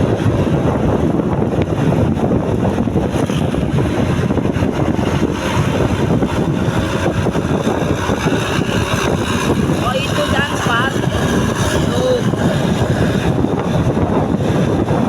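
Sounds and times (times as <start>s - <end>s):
road traffic rumble: 0.0s - 15.0s
wind buffeting microphone: 0.0s - 15.0s.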